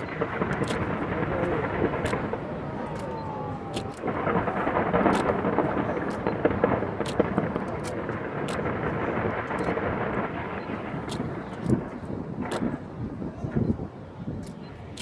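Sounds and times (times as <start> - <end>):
fireworks booming: 0.0 - 14.8
fireworks crackling pops: 0.0 - 15.0.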